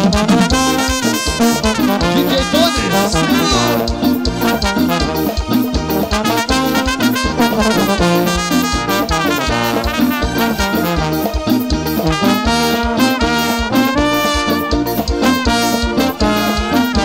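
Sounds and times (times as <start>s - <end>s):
live band dance music with horns: 0.0s - 17.0s.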